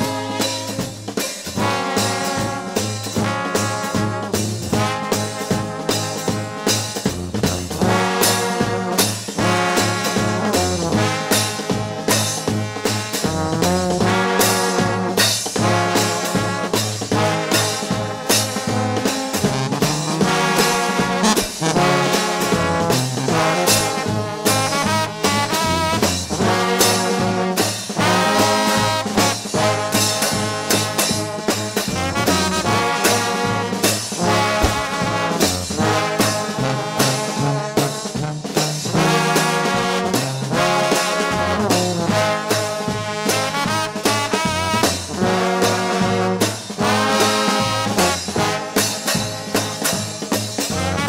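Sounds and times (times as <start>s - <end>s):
trombone band playing gospel: 0.0s - 51.0s.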